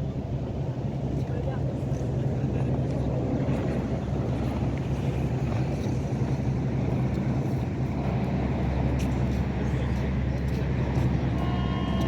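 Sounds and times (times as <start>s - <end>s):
low engine hum: 0.0s - 12.0s
wind on microphone: 0.0s - 12.0s.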